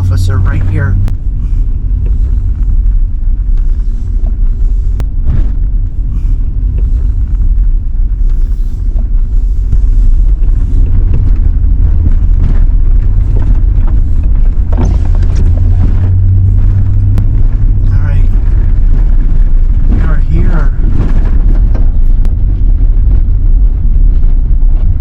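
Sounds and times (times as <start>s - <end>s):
truck engine and tyres rumbling: 0.0s - 25.0s.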